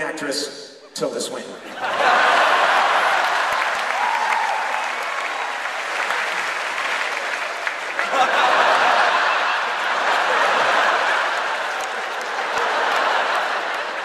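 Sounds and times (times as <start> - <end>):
theatre audience applauding: 2.0 - 14.0.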